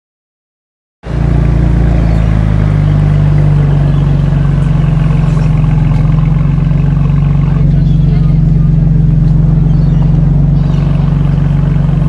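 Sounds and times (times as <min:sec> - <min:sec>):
car engine running steadily: 0:01.0 - 0:12.0.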